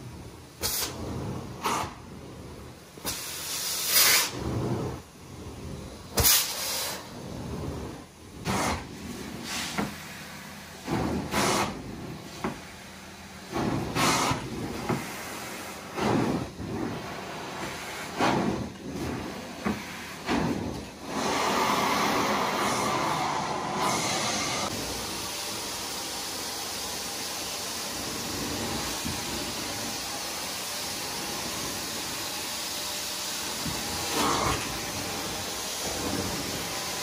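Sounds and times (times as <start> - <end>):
extraction wand hissing: 3.0 - 5.1, 6.0 - 37.0.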